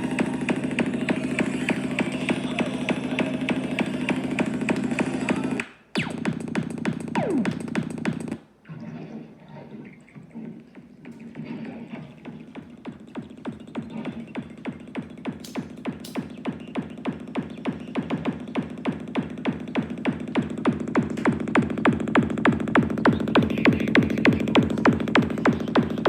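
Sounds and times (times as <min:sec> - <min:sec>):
electronic dance music on speaker: 0:00.0 - 0:08.4, 0:09.8 - 0:26.0.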